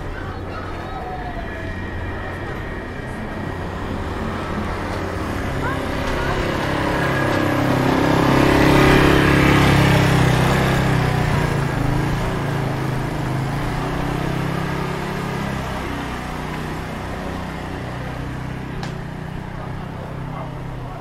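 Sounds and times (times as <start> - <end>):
vehicle engine passing by: 0.0 - 21.0.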